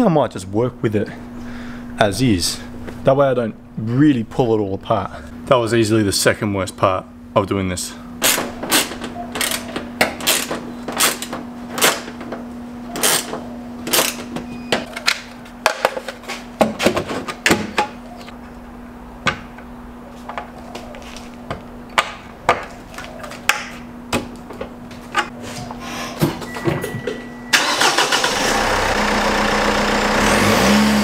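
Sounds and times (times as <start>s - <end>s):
steady low hum: 0.1s - 27.6s.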